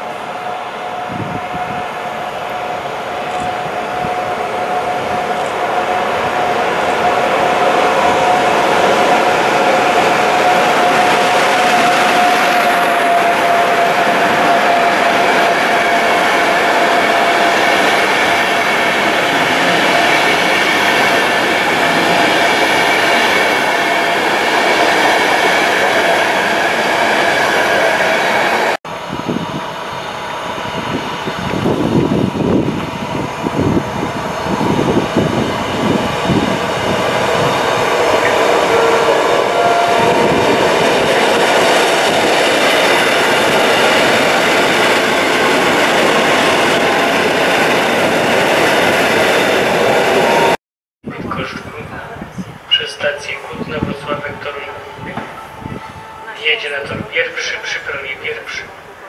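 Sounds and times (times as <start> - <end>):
locomotive whine: 0.0 - 50.6, 51.2 - 59.0
train wheels rushing on rail: 0.0 - 50.6, 51.2 - 59.0
approaching train rumble: 0.0 - 59.0.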